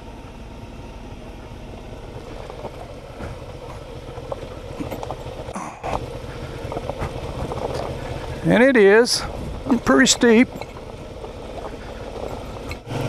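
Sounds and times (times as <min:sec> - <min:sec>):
motorcycle engine running: 0:00.0 - 0:13.0
tyres crunching over gravel: 0:01.4 - 0:13.0.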